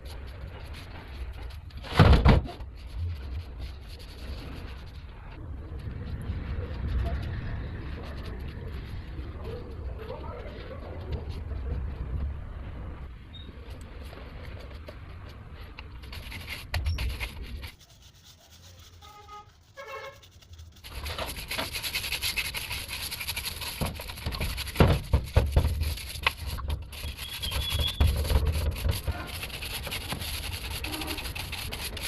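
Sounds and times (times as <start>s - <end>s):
brush scrubbing metal: 0.0s - 11.9s, 15.4s - 32.0s.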